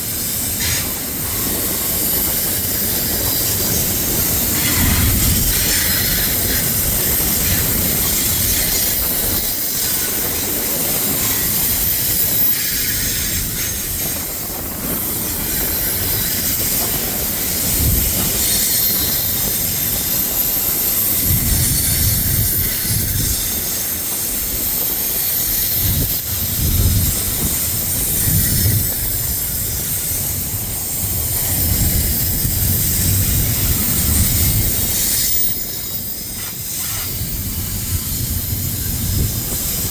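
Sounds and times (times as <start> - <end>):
freight train rumbling: 0.0 - 39.9
high wheel squeal: 0.2 - 39.9.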